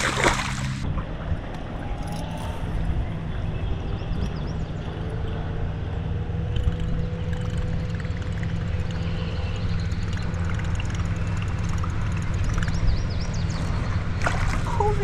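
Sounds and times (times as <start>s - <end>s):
distant engine drone: 0.0s - 15.0s.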